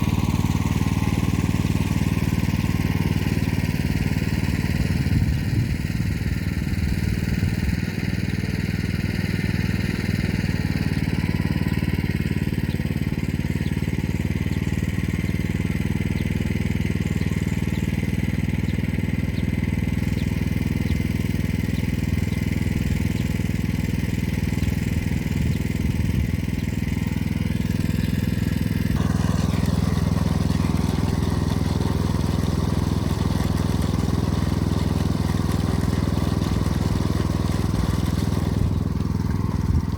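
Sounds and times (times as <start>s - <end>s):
walk-behind tractor engine running: 0.0s - 39.9s.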